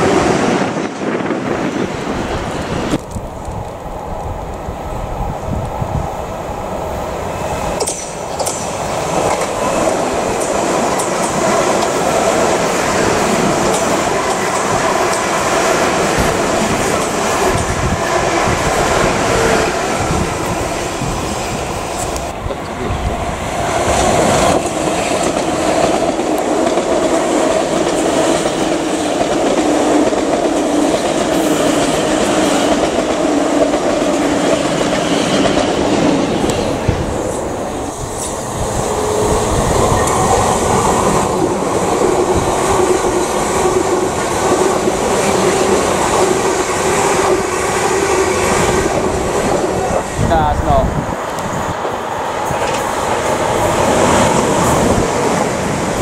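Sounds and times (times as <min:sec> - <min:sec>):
electric trains passing: 0:00.0 - 0:56.0.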